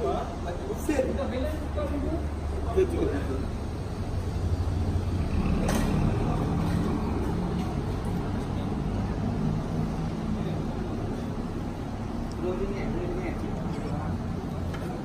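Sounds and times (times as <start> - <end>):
small motorcycle engines idling: 0.0 - 15.0.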